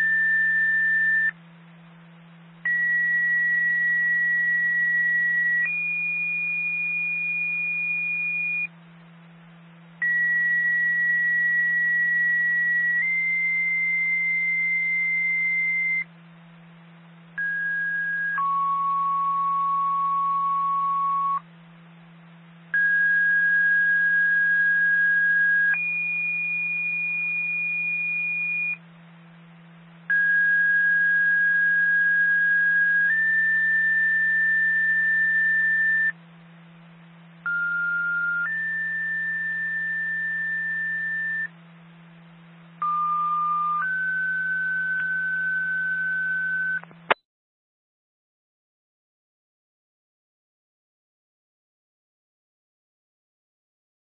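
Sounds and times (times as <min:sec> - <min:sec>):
low steady hum: 0:00.0 - 0:47.2.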